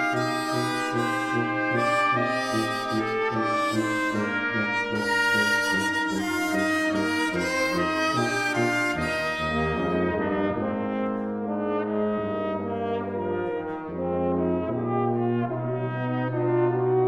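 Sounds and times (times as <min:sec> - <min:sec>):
brass ensemble playing chords: 0:00.0 - 0:17.0.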